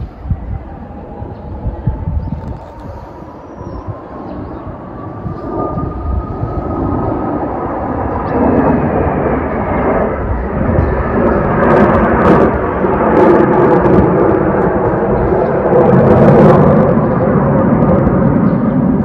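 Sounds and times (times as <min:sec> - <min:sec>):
jet aircraft roaring overhead: 0:00.0 - 0:19.0.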